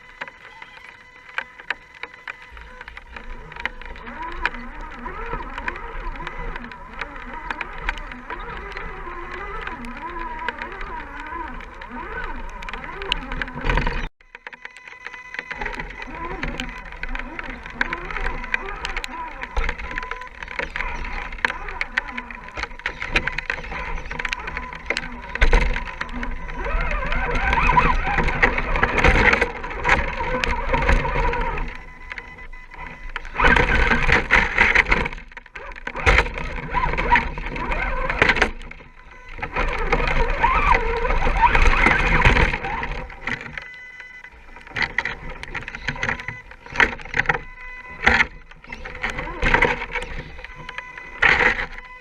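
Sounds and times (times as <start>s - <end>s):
electric motor and gears whining: 0.0s - 52.0s.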